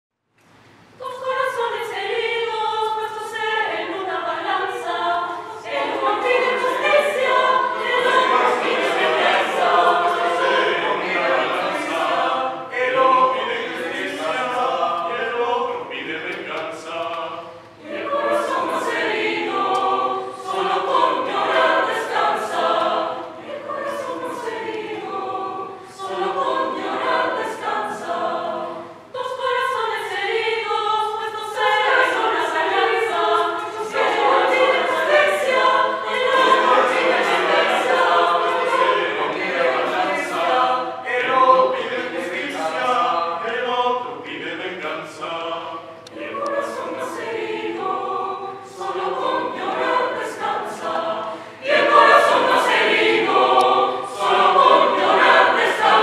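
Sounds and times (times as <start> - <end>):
mixed choir singing: 1.0 - 56.0.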